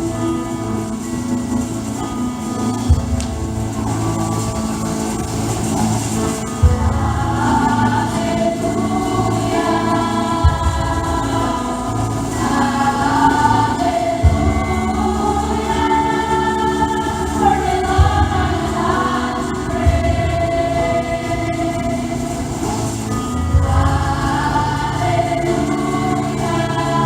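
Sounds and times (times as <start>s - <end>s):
church choir singing: 0.0s - 27.0s
low accompanying notes: 0.0s - 27.0s.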